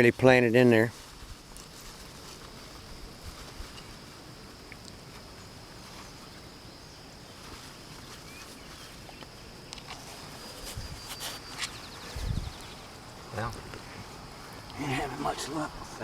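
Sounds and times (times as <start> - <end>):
high insect drone: 0.0 - 16.0
string clicks and rustles: 0.8 - 6.4, 7.2 - 16.0.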